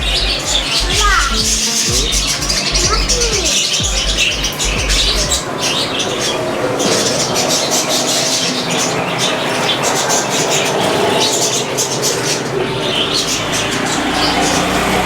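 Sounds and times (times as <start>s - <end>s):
loud steady background noise: 0.0s - 15.0s
small birds chirping and squawking: 0.0s - 15.0s.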